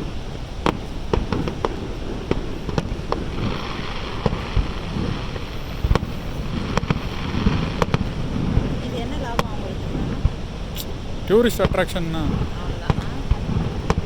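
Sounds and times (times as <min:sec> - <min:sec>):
fireworks bangs: 0:00.0 - 0:14.0
rushing background noise: 0:00.0 - 0:14.0.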